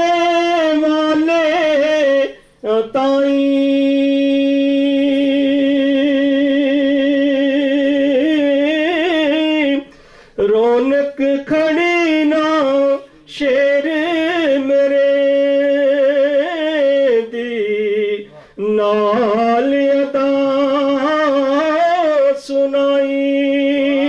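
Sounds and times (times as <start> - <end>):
man singing long held notes: 0.0 - 24.0.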